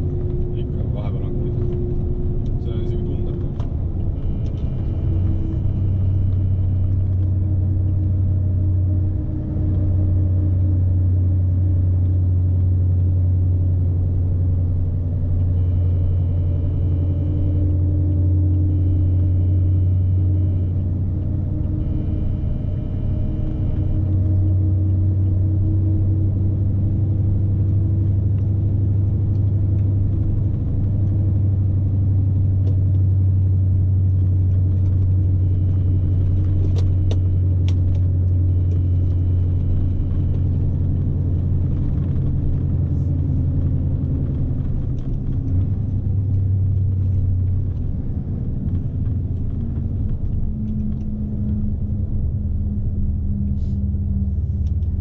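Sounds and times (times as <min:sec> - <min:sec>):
truck diesel engine drone: 0:00.0 - 0:55.0.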